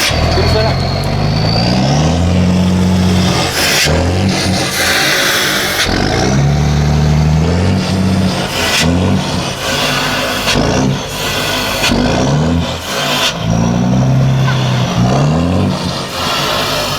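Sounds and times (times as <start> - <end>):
engine accelerating: 0.0 - 16.9.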